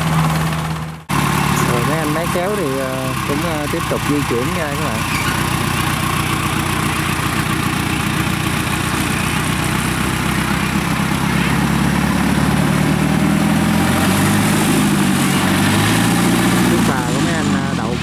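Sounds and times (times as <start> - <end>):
tracked cart engine running: 0.0 - 18.0.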